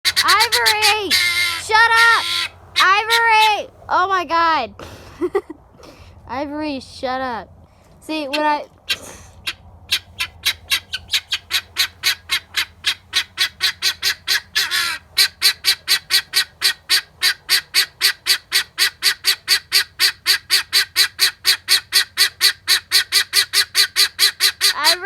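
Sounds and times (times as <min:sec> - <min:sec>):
guinea fowl screeching: 0:00.1 - 0:03.6, 0:08.3 - 0:25.0.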